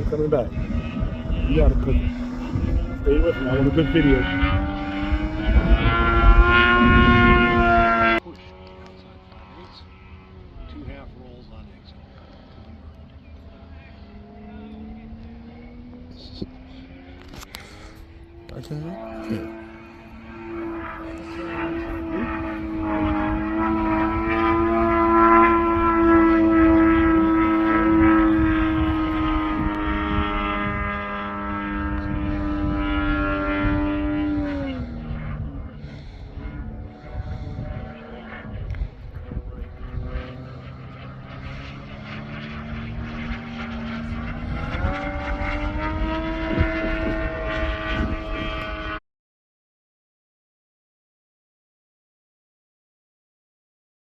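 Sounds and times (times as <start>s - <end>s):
model plane engine droning: 0.0s - 49.0s.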